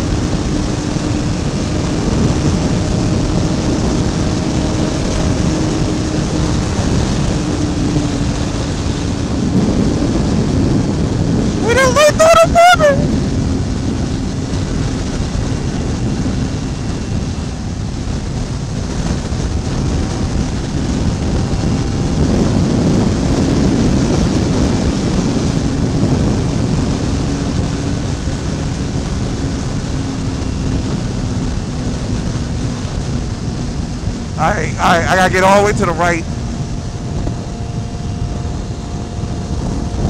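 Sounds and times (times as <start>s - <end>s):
motorcycle engine drone: 0.0s - 40.0s
wind rushing over microphone: 0.0s - 40.0s.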